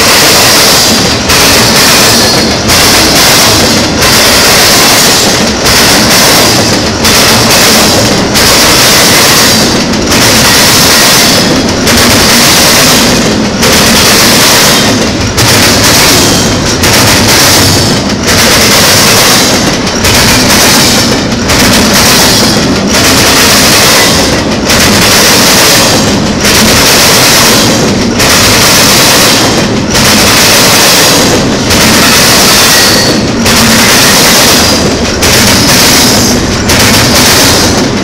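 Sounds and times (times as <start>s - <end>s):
freight train cars rushing past: 0.0s - 38.0s.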